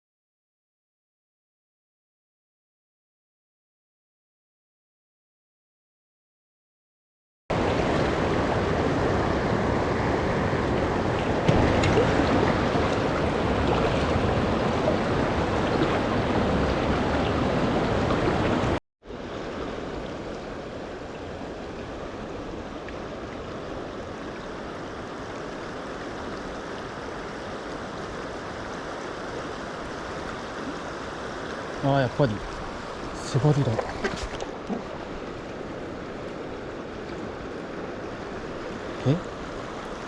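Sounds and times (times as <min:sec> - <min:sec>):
river water rushing: 0:07.5 - 0:40.0.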